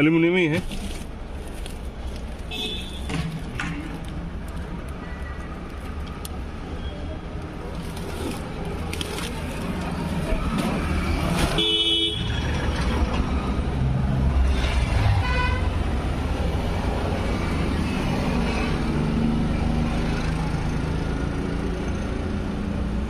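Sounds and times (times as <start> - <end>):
vehicle engines rumbling: 0.0 - 23.0.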